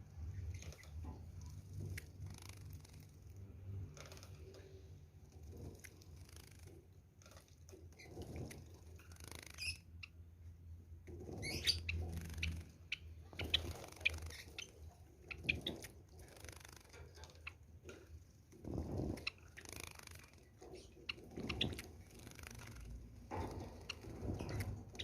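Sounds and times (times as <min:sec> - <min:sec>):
wings flapping and splashing water: 0:00.0 - 0:10.2, 0:11.1 - 0:25.0.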